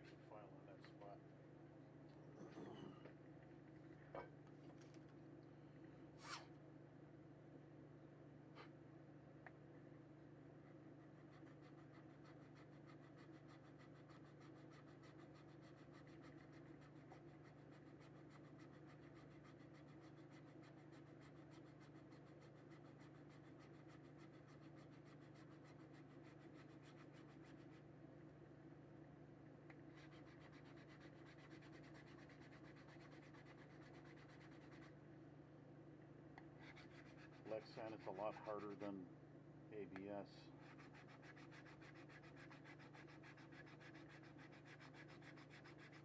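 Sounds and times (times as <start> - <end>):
steady low hum: 0.0 - 21.3, 27.4 - 45.5.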